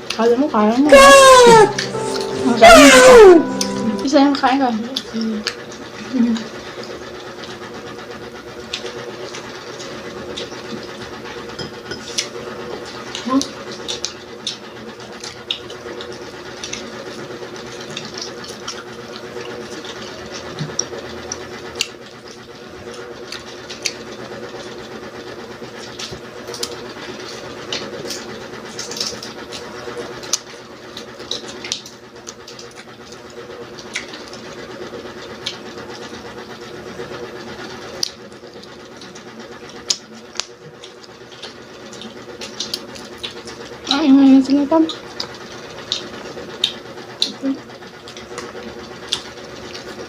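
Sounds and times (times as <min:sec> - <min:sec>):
steady background hum: 0:00.0 - 0:50.0
chewing crispy food: 0:05.0 - 0:50.0.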